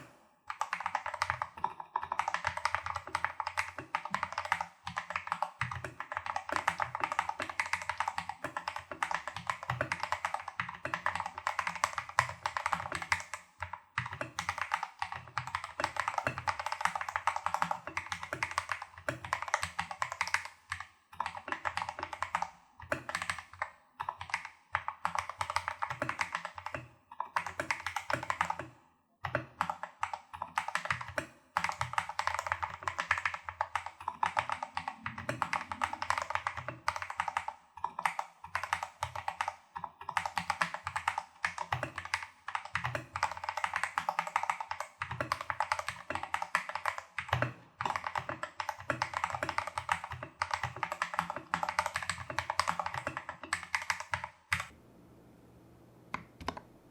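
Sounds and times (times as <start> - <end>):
fast typing on mechanical keyboard: 0.5 - 54.7.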